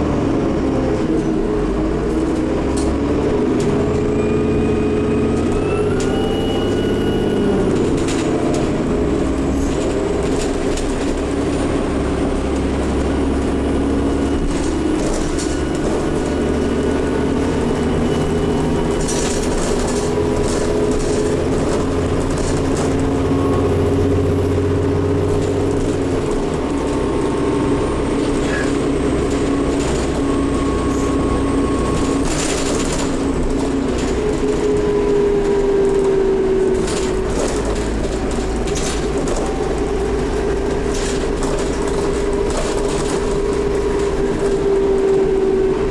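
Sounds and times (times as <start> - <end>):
bus diesel engine rumble: 0.0 - 45.9.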